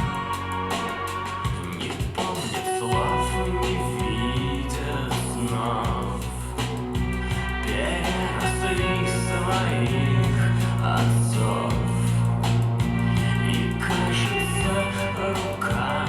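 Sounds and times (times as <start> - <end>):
instrumental music through speakers: 0.0 - 16.0.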